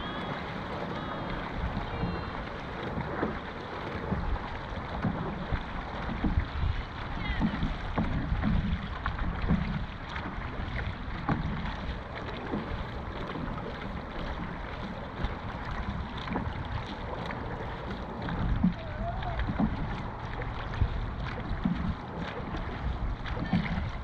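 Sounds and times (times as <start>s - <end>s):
water washing around boat: 0.0s - 24.0s
wind rumbling on microphone: 0.0s - 24.0s.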